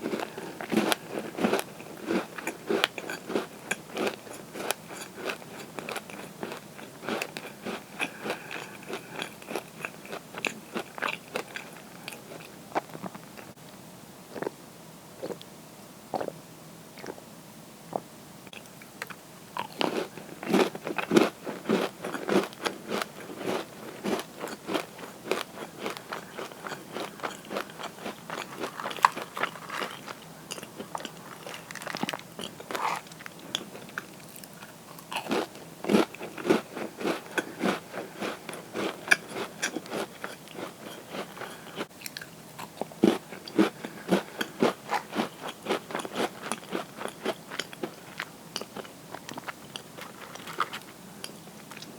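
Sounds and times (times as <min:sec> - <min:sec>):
person chewing crunchy cookies: 0:00.0 - 0:13.6, 0:14.3 - 0:14.6, 0:15.2 - 0:15.5, 0:16.1 - 0:16.4, 0:17.0 - 0:17.2, 0:17.9 - 0:51.9.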